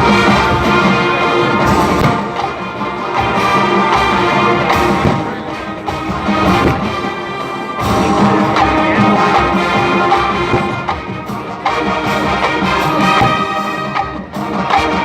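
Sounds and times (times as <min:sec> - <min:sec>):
marching band brass: 0:00.0 - 0:15.0
marching percussion: 0:00.0 - 0:15.0.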